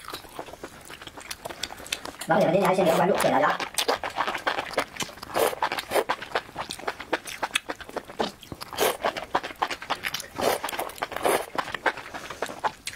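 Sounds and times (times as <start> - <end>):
person slurping and chewing: 0.0 - 12.9.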